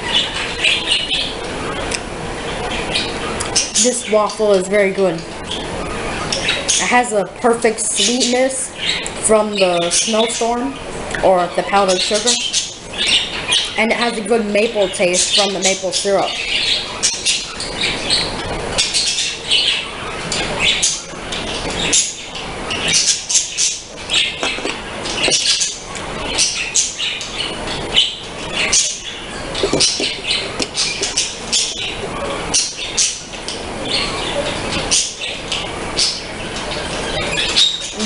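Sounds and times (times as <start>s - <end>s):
bird chirping and squawking: 0.0s - 38.0s.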